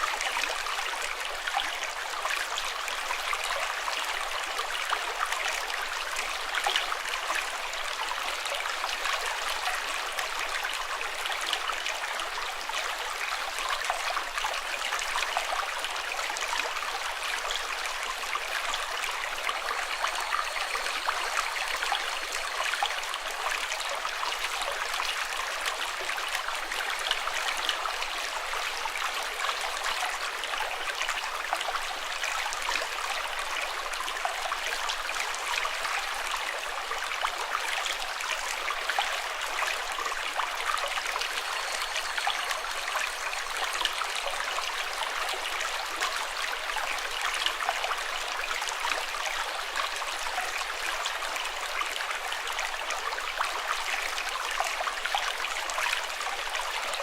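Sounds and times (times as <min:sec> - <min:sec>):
running water babbling: 0:00.0 - 0:57.0.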